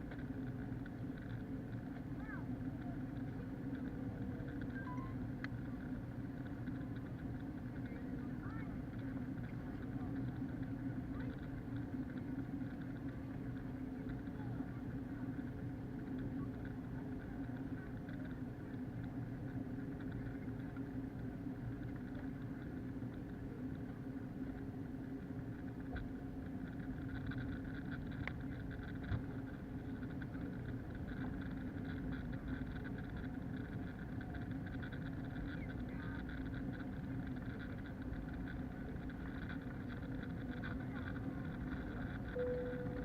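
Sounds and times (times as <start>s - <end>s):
muffled airliner cabin drone: 0.0s - 43.0s.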